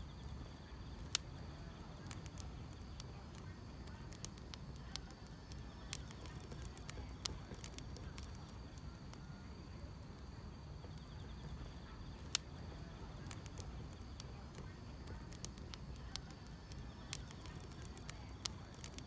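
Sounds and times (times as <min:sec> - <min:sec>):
grass insects chirping: 0:00.0 - 0:09.8, 0:10.6 - 0:19.0
wood fire crackling and popping: 0:00.0 - 0:19.0.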